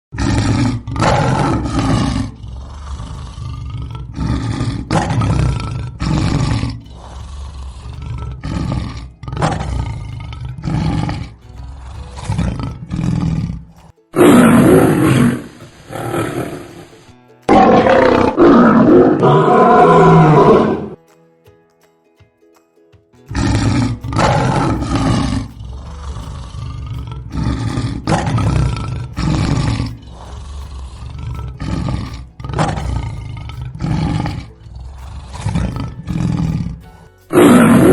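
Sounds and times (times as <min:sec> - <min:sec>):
lions roaring: 0:00.1 - 0:21.0, 0:23.3 - 0:37.9.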